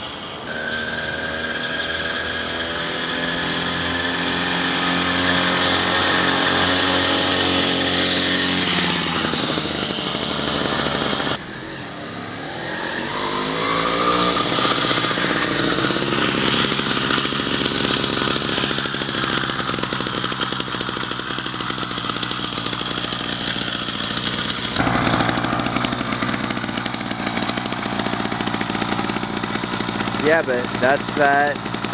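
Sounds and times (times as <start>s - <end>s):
two-stroke engine revving: 0.0s - 31.9s.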